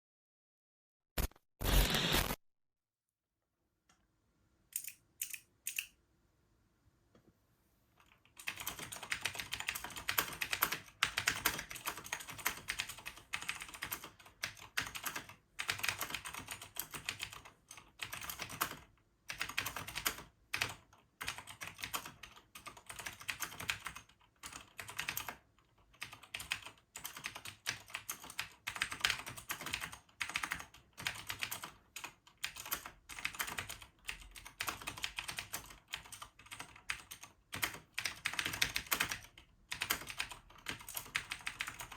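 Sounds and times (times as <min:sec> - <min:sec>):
mechanical keyboard typing: 0:04.8 - 0:05.9, 0:08.0 - 0:41.9.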